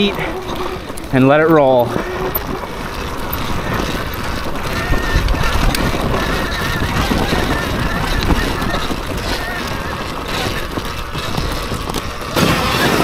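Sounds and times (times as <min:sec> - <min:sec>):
tyres crackling over dirt: 0:00.0 - 0:13.0.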